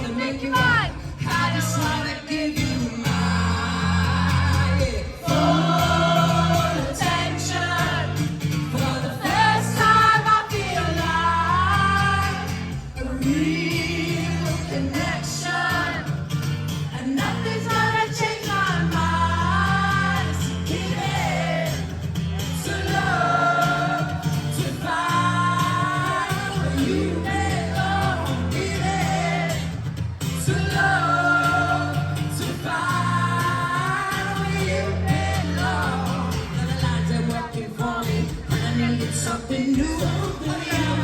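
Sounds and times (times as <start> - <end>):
acoustic guitar strumming: 0.0 - 41.0
audience singing along: 0.0 - 41.0
man singing: 0.0 - 41.0.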